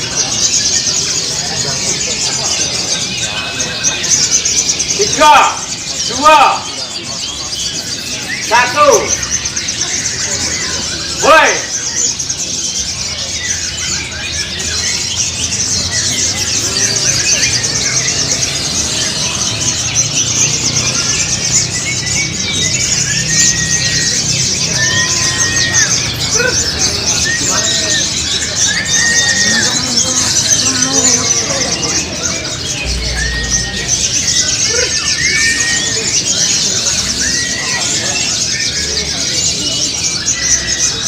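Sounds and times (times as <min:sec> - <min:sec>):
birds chirping and trilling: 0:00.0 - 0:41.0
low background murmur: 0:00.0 - 0:41.0.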